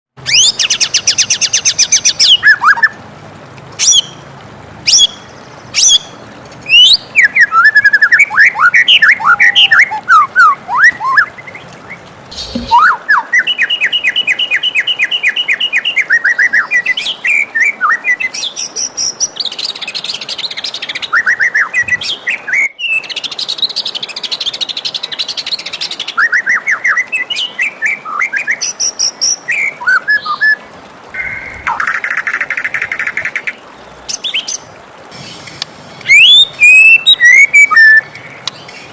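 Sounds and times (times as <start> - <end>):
songbird singing trills and whistles: 0.2 - 3.0, 3.8 - 4.2, 4.9 - 30.6, 36.0 - 38.9.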